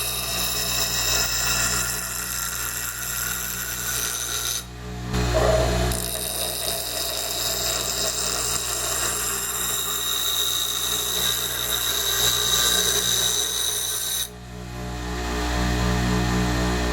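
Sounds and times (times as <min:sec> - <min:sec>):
power tool whining: 0:00.0 - 0:14.4.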